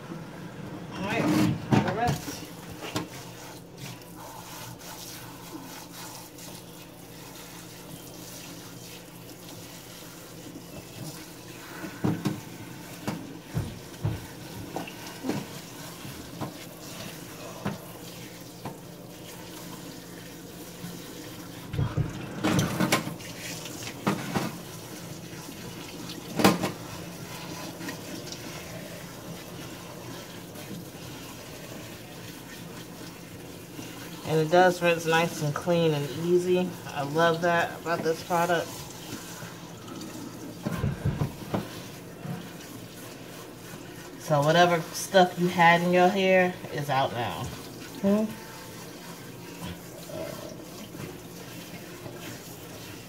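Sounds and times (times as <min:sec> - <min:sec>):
water spraying into a sink: 0:01.0 - 0:53.0.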